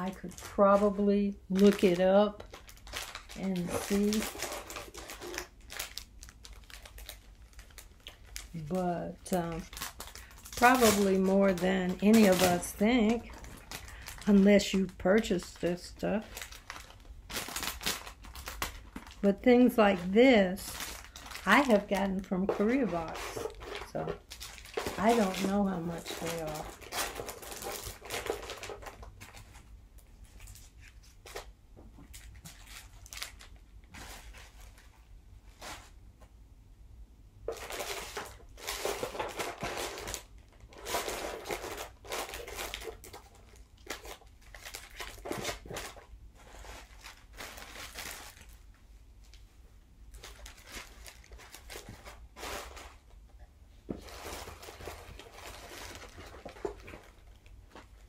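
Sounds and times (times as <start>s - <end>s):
packaging rustling and crinkling: 0.0s - 36.0s, 37.4s - 49.5s, 50.1s - 58.0s.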